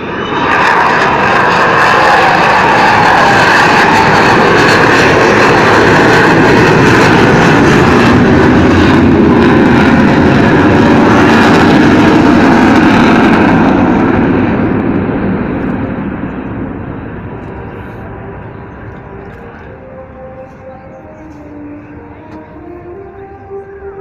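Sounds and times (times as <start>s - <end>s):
jet bomber flying past: 0.0s - 24.0s.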